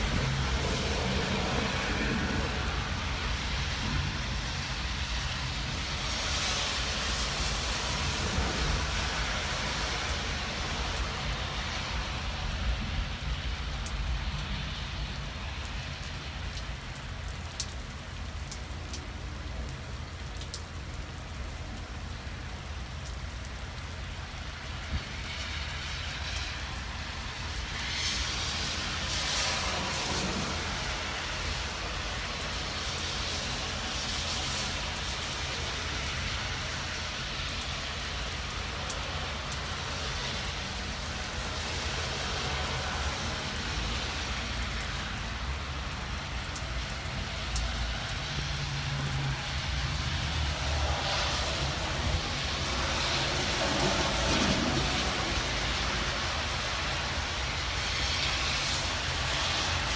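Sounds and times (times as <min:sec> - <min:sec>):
vehicle swishing past on wet road: 0:00.0 - 0:17.7, 0:24.5 - 0:59.9
heavy rain on pavement: 0:00.0 - 0:59.9.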